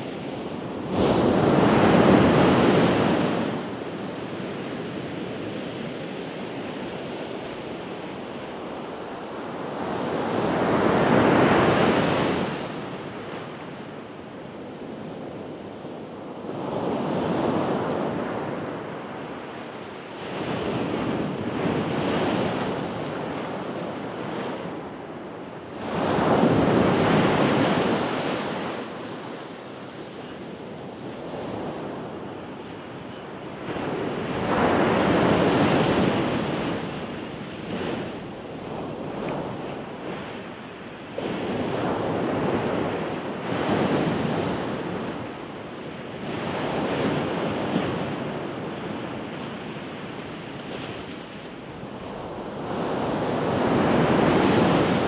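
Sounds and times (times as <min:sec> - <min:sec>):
waves crashing on a beach: 0:00.0 - 0:55.0.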